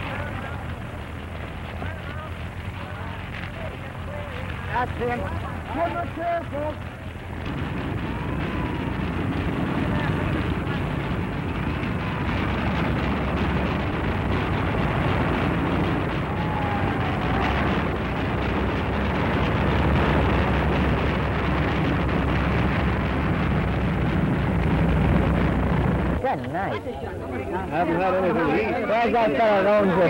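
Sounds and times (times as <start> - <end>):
propeller airplane engine running: 0.0 - 30.0.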